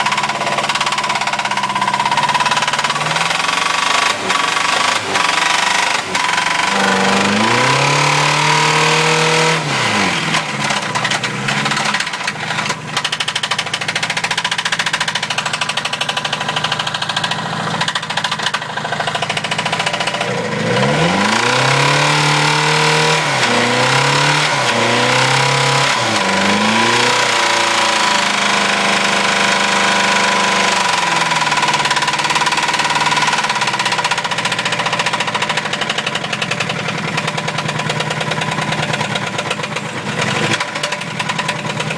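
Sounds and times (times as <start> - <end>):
engine knocking and revving: 0.0 - 41.9.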